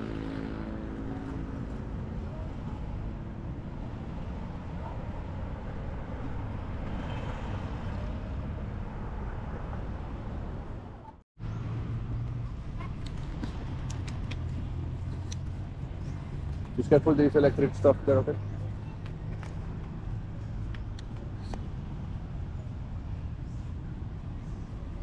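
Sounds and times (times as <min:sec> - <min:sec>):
road noise: 0:00.0 - 0:25.0
vehicle engine rumble: 0:00.0 - 0:25.0.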